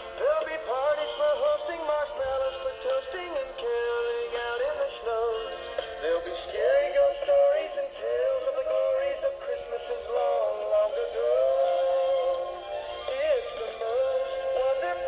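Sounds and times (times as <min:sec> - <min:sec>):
toy speaker playing sung song: 0:00.0 - 0:15.0.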